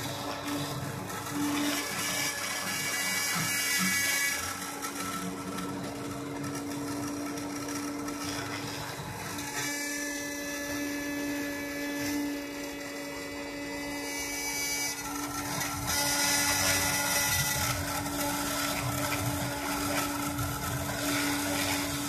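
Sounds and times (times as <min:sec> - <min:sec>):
rotary tool whining: 0:00.0 - 0:22.0
stepper motors whining: 0:00.0 - 0:22.0.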